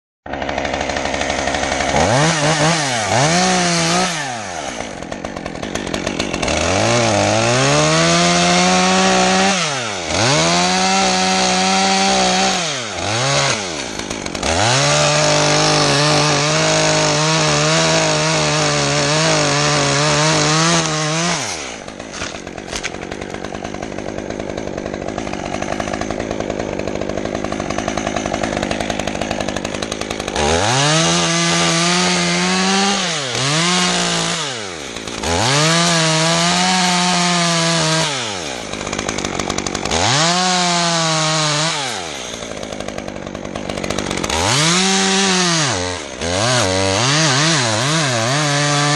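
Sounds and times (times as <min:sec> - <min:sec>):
chainsaw revving and idling: 0:00.3 - 0:48.9.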